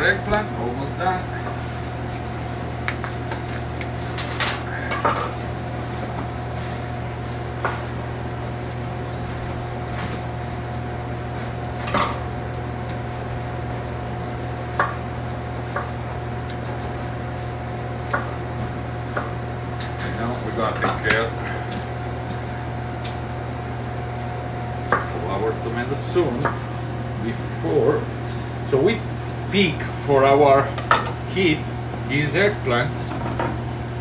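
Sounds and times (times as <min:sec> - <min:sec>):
low kitchen hum: 0:00.0 - 0:34.0.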